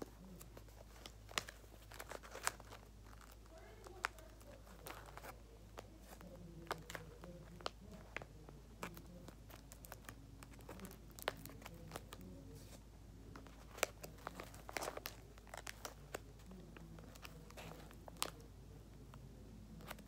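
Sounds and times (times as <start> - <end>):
paper crinkling and rustling: 0.0 - 12.8, 13.4 - 18.5.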